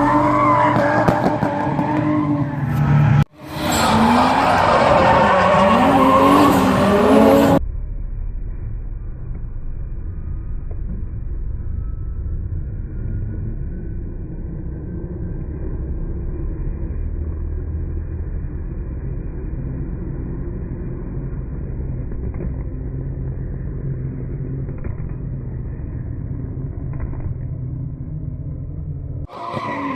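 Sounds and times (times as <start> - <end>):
car engine running: 4.4 - 29.3.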